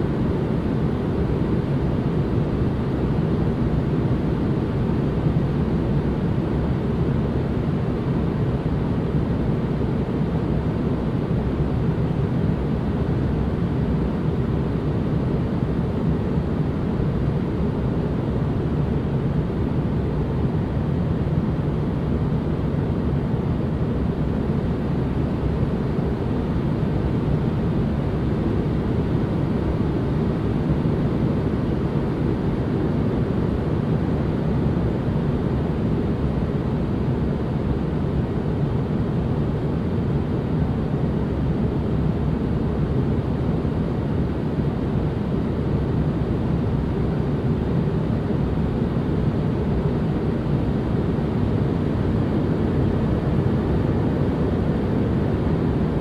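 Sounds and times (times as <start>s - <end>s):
low white noise rush: 0.0s - 56.0s.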